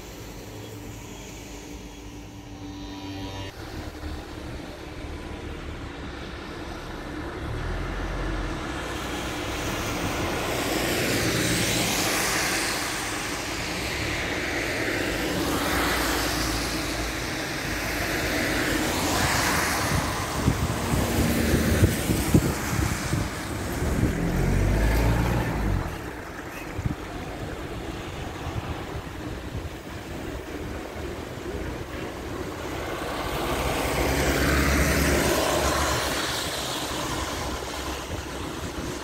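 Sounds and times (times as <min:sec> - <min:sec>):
tyres hissing on wet road: 0:00.0 - 0:39.0.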